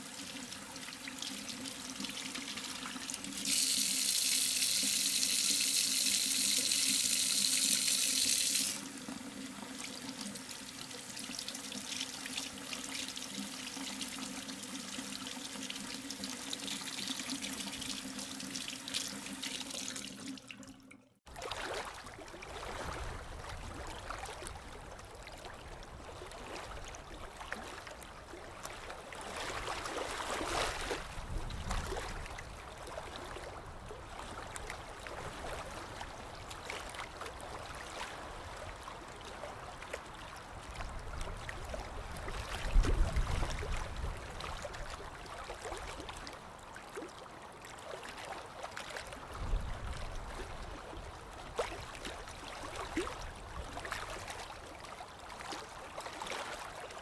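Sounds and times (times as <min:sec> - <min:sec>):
water splashing and lapping: 0:00.0 - 0:57.0.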